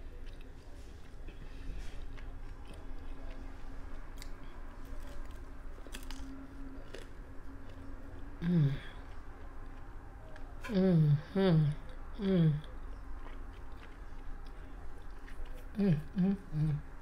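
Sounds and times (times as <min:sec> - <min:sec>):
person chewing food: 0:00.0 - 0:10.6, 0:11.8 - 0:17.0.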